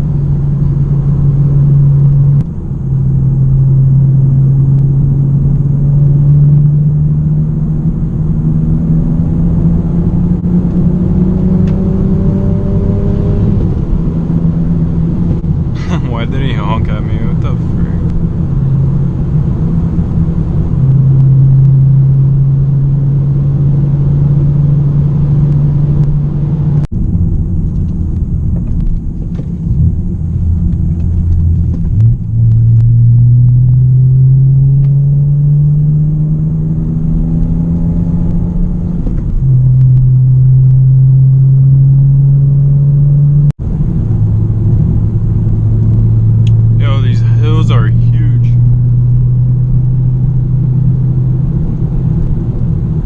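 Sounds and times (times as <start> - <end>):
car exhaust roaring: 0.0 - 53.0.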